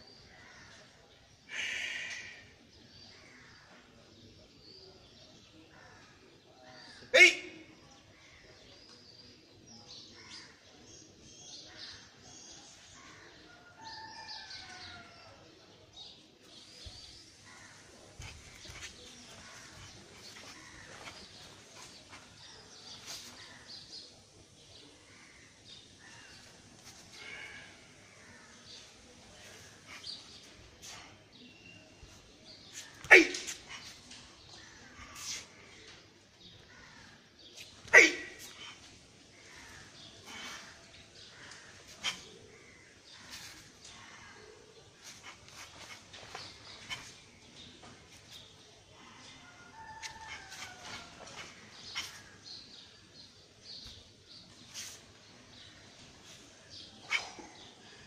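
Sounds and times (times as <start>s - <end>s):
birds chirping: 0.0s - 58.0s
low outdoor background: 0.0s - 58.0s.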